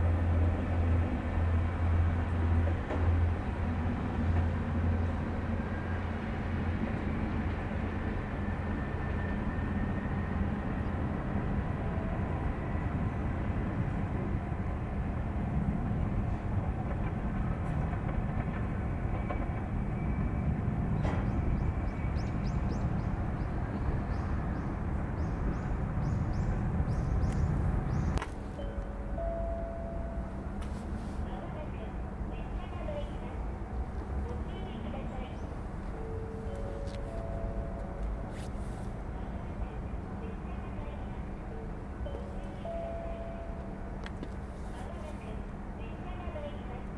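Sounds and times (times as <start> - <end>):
diesel railcar rumbling: 0.0 - 46.9.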